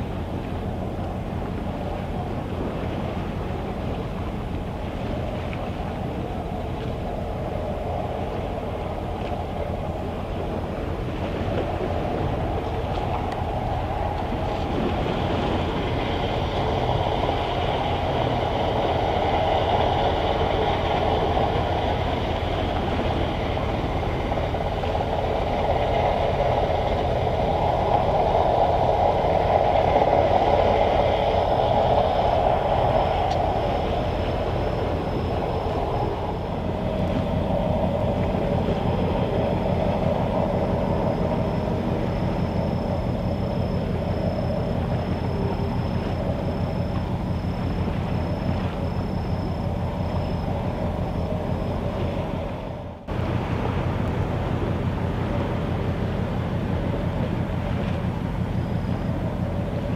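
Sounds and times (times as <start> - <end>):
thin high whine: 0.0 - 59.9.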